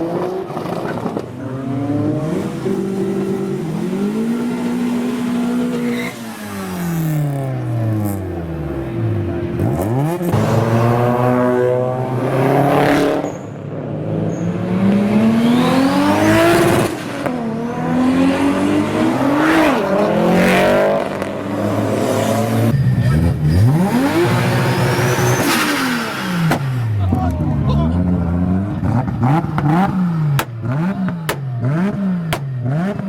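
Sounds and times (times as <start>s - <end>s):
car engine revving hard: 0.0s - 27.0s, 27.9s - 33.0s.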